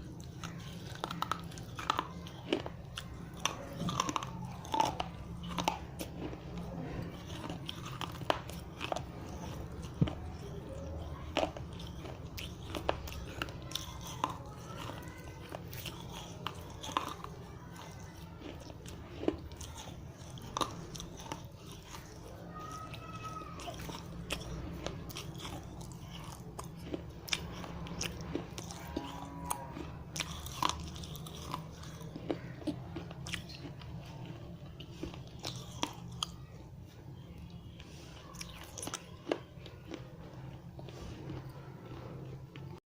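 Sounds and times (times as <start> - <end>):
steady low hum: 0.0 - 42.8
clay pieces crunching in mouth: 0.1 - 42.8.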